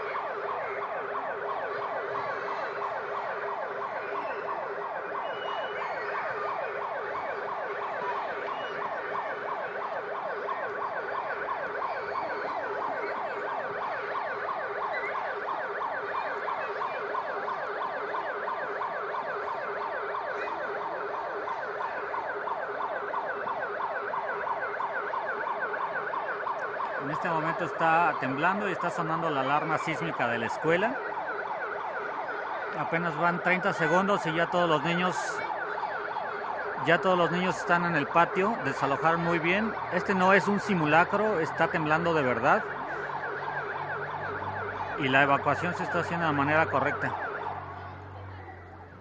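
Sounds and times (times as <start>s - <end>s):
warbling alarm siren: 0.0s - 49.0s.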